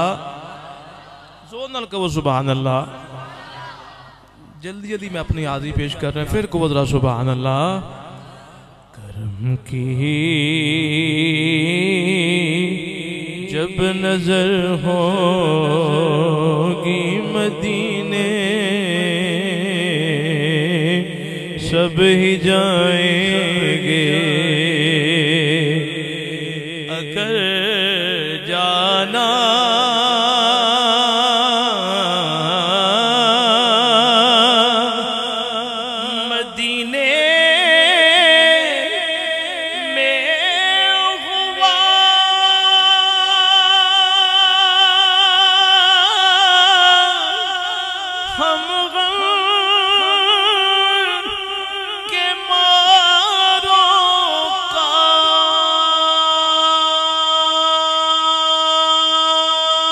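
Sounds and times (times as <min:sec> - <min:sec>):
man singing devotional song: 0:00.0 - 0:03.3, 0:04.4 - 0:59.9.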